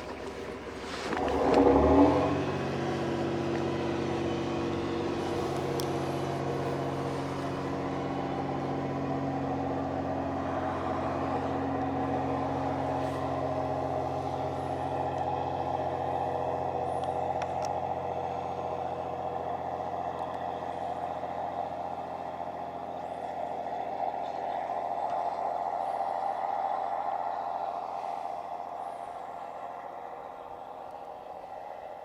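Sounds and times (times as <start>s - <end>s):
railcar diesel engine hum: 0.0s - 32.0s.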